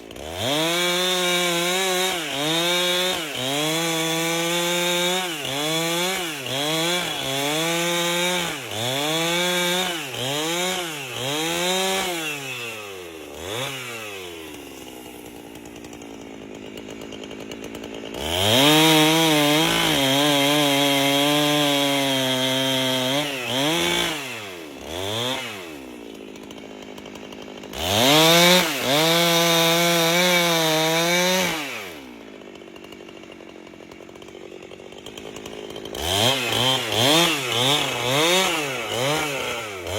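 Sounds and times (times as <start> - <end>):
chainsaw revving through log: 0.0 - 39.9.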